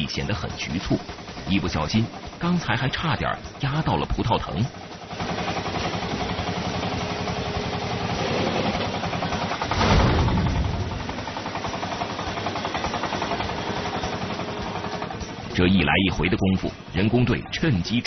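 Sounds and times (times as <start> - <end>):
engine running with rapid pulse: 0.0 - 18.0.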